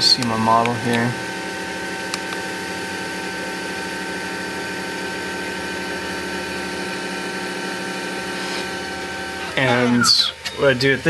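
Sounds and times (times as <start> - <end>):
printer fans humming: 0.0 - 11.0.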